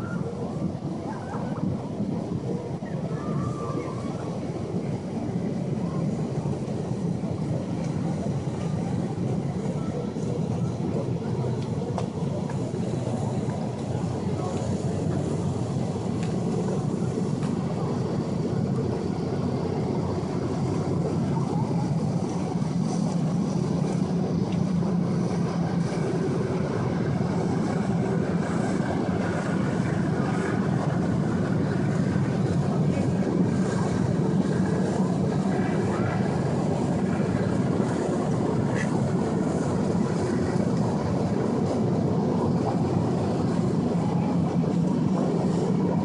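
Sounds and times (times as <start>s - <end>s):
boat engines rumbling: 0.0s - 46.0s.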